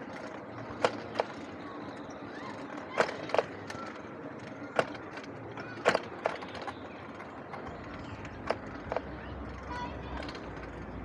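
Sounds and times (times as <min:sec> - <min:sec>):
bike tyre and wind noise: 0:00.0 - 0:11.0.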